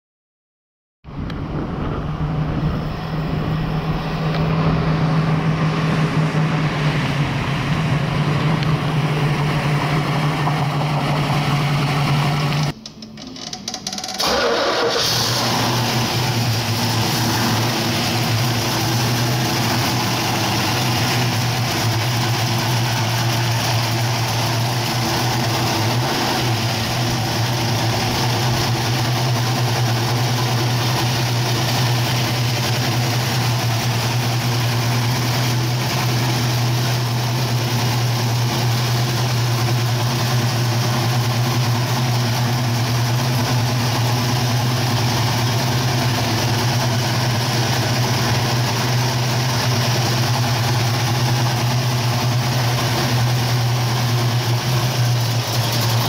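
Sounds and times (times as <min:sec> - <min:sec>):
car engine running: 0:01.1 - 0:12.8, 0:14.2 - 0:56.0
car engine idling: 0:01.1 - 0:13.0, 0:14.2 - 0:56.0.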